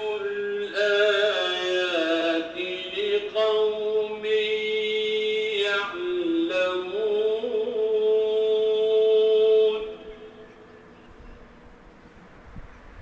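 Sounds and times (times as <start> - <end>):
man chanting: 0.0 - 10.7.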